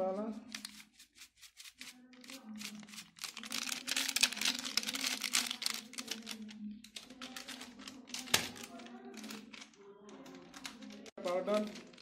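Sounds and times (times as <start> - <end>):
plastic packet crinkling: 1.7 - 12.0.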